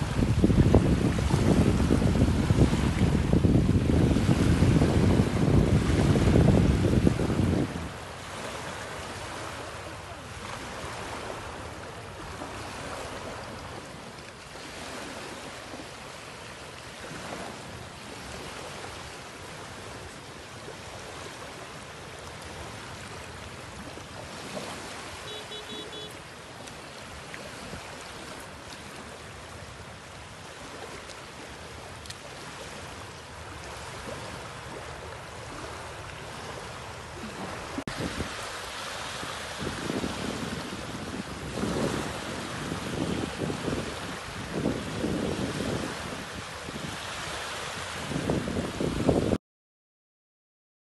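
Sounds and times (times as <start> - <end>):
small waves lapping on beach: 0.0 - 49.4.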